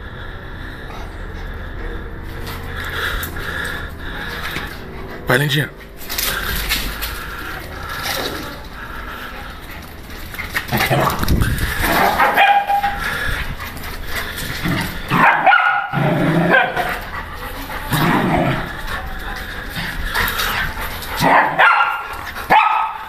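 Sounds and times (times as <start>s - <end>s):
dogs barking and yipping: 1.2s - 23.0s.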